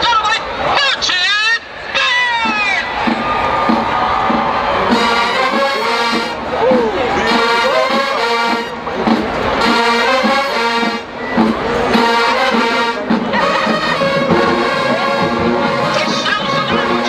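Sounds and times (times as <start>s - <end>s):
marching band playing: 0.0s - 17.0s
brass chords: 2.0s - 17.0s.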